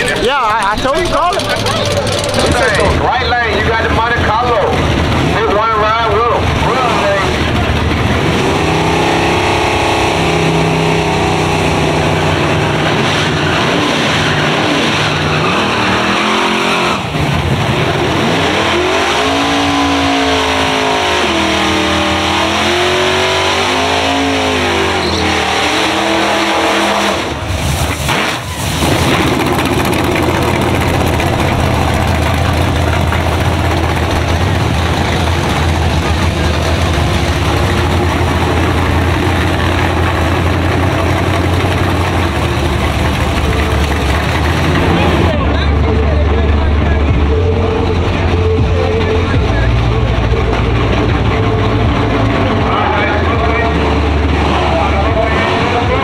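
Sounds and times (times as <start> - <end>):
car engine idling: 0.0 - 26.2, 27.2 - 56.0
race car engines revving: 0.0 - 56.0.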